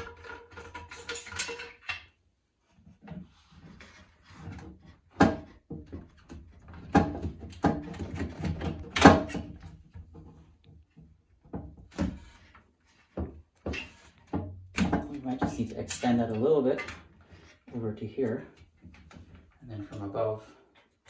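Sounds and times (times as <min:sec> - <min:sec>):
plastic parts knocking and scraping: 0:00.0 - 0:21.0.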